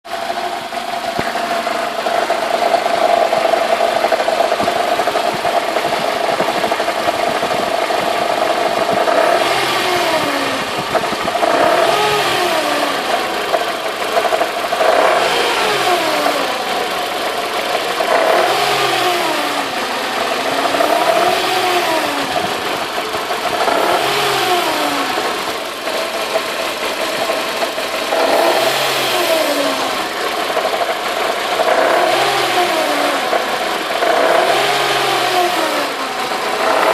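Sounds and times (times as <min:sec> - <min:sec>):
car engine revving: 0:00.1 - 0:36.9.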